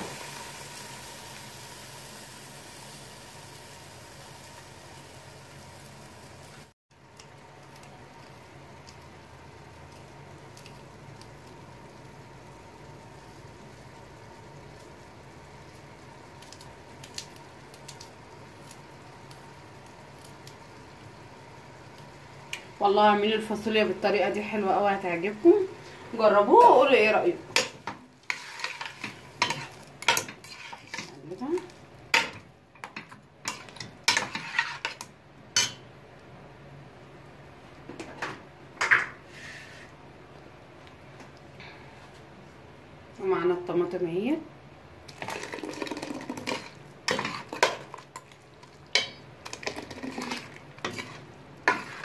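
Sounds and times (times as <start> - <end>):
pot simmering: 0.0 - 36.1, 45.0 - 52.0.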